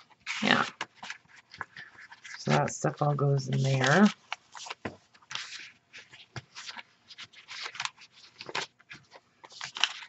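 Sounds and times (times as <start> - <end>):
paper rustling and sliding: 0.0 - 10.0.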